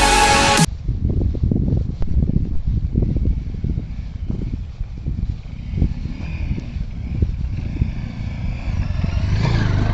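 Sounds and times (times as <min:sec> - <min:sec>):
motorcycle engine rumbling: 0:00.0 - 0:09.9
wind buffeting microphone: 0:00.7 - 0:09.9.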